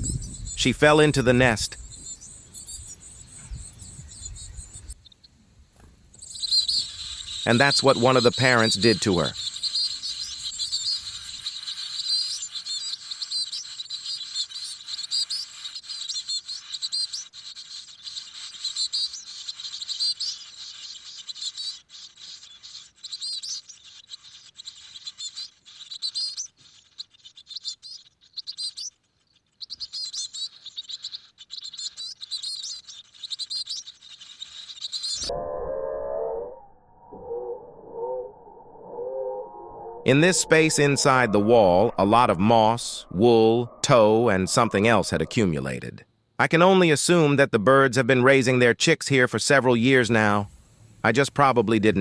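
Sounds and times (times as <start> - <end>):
nestlings cheeping: 0.0 - 5.4, 6.1 - 35.3, 40.1 - 45.9, 49.6 - 52.0.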